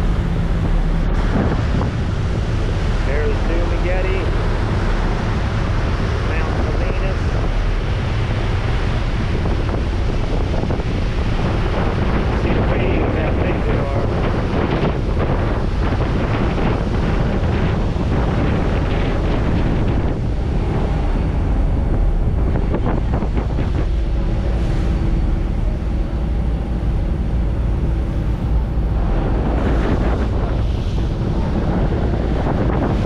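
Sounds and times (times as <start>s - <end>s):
boat engine rumble: 0.0s - 33.0s
waves splashing against hull: 0.0s - 33.0s
wind buffeting microphone: 0.0s - 33.0s.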